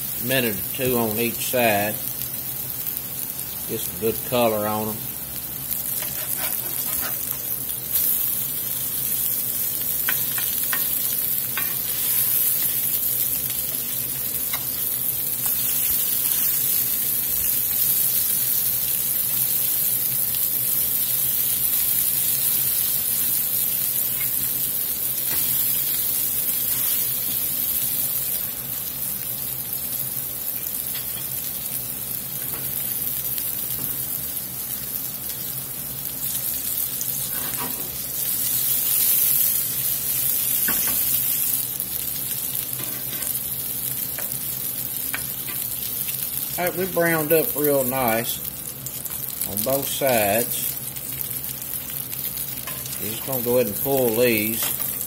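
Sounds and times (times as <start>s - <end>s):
meat sizzling in a skillet: 0.0s - 55.0s.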